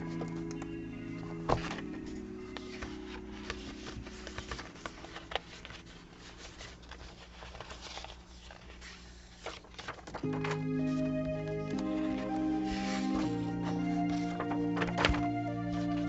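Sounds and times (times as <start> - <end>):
paper clicks and rustles: 0.0 - 16.0.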